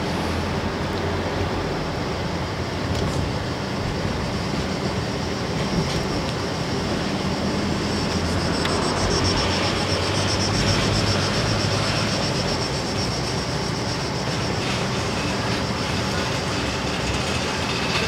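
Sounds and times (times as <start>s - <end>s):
tyre and road noise: 0.0s - 18.0s.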